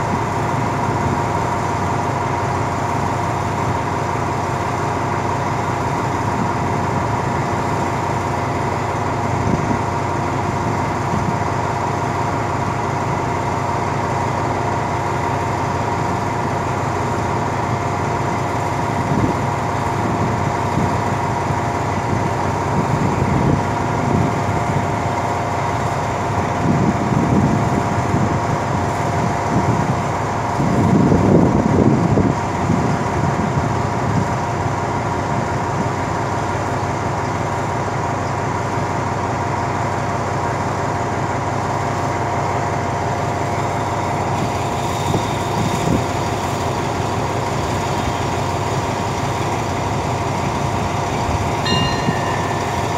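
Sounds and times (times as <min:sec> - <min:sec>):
diesel locomotive idling: 0:00.0 - 0:52.9.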